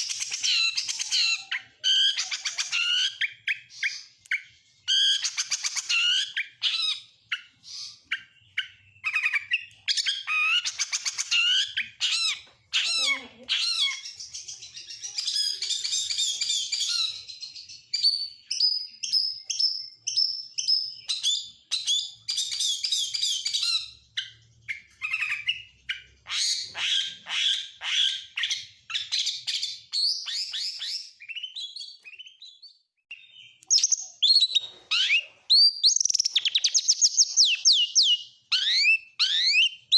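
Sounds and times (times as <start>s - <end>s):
songbird singing whistles and trills: 0.0s - 12.5s, 13.6s - 39.9s.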